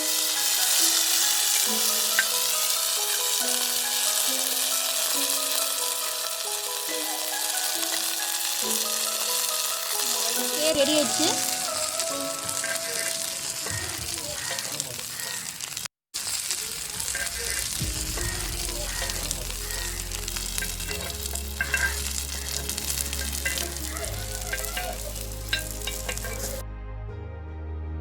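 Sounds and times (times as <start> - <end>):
soft background music: 0.0 - 13.6, 17.2 - 28.0
fish sizzling in oil: 0.0 - 26.6.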